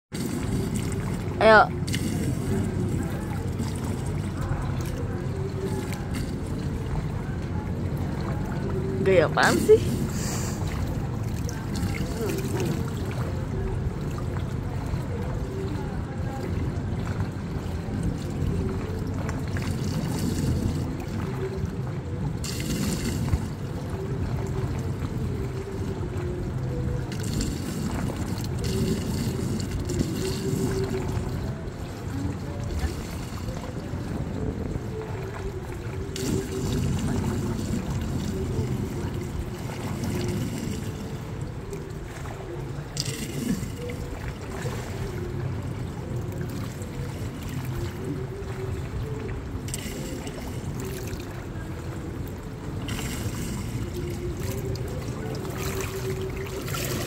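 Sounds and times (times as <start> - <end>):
pool water sloshing: 0.1 - 57.0.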